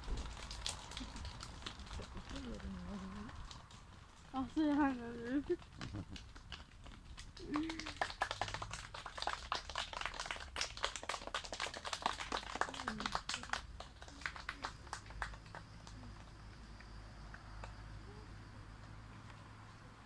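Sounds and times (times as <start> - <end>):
children clapping: 0.0 - 3.7, 4.7 - 17.8.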